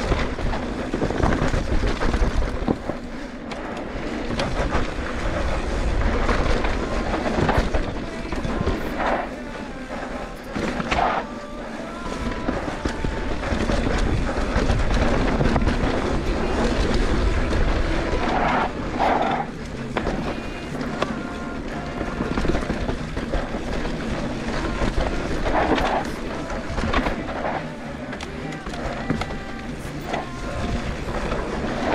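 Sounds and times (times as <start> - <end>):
bike rattling and ticking: 0.0 - 31.9
tyres rumbling over dirt: 0.0 - 31.9
wind buffeting microphone: 0.0 - 31.9.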